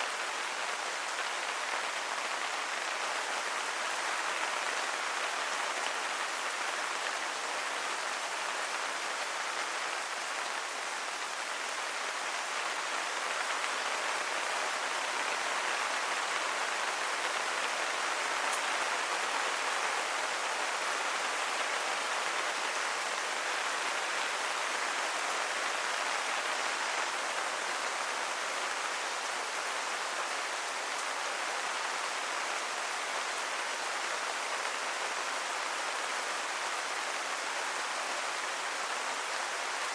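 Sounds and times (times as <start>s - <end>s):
rain hitting surfaces: 0.0s - 39.9s.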